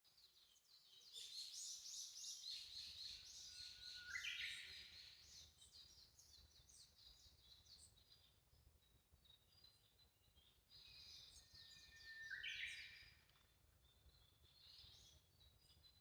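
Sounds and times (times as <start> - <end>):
songbirds singing: 0.1 - 16.0.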